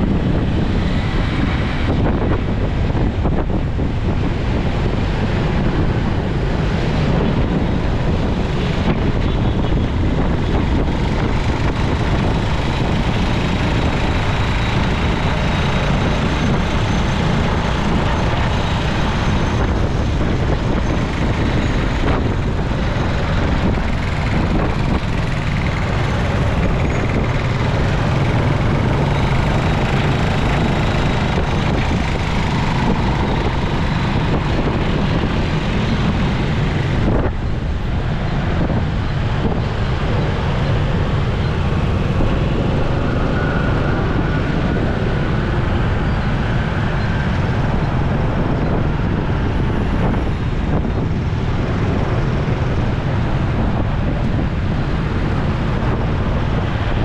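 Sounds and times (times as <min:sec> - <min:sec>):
road traffic: 0:00.0 - 0:57.0
wind rushing on microphone: 0:00.0 - 0:57.0
motorcycle engine: 0:07.0 - 0:56.8.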